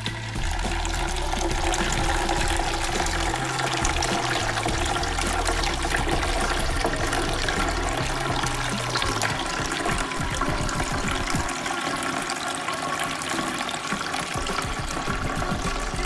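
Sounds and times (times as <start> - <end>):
liquid pouring into a sieve: 0.0 - 16.0.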